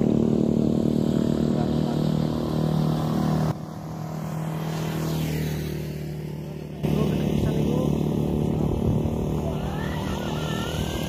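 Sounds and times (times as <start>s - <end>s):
faint rising whine: 0.0s - 11.0s
small engine running: 0.0s - 11.0s.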